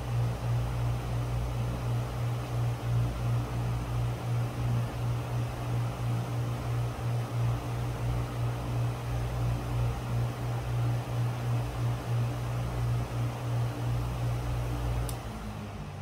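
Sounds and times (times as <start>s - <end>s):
fan motor hum: 0.0s - 16.0s.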